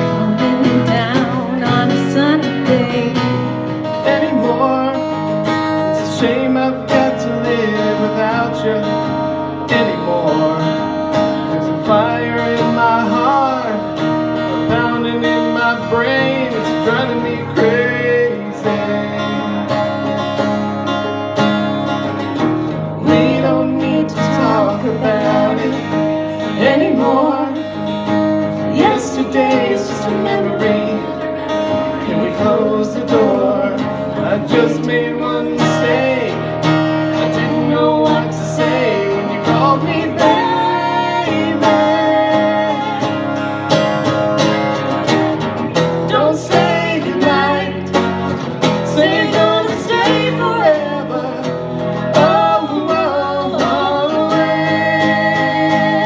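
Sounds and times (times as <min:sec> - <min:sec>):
woman and man singing: 0:00.0 - 0:19.8, 0:23.0 - 0:43.8, 0:45.9 - 0:56.0
acoustic guitar strumming: 0:00.0 - 0:56.0.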